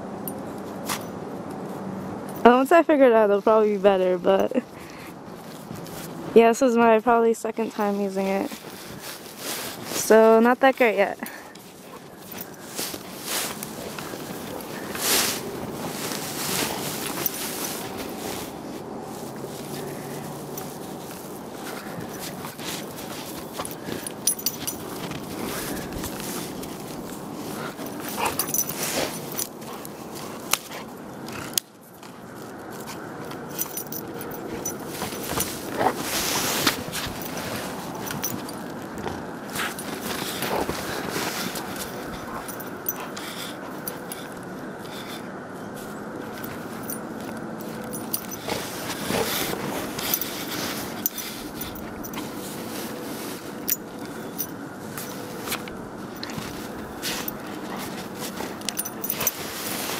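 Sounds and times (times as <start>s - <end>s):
dog digging in snow: 7.7s - 31.6s, 32.3s - 59.9s.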